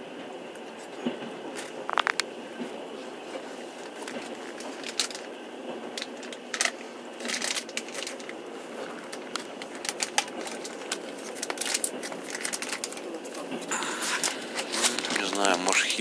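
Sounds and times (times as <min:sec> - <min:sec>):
train running inside carriage: 0:00.0 - 0:16.0
sharp clicks and crackles: 0:01.0 - 0:02.3, 0:03.8 - 0:15.9.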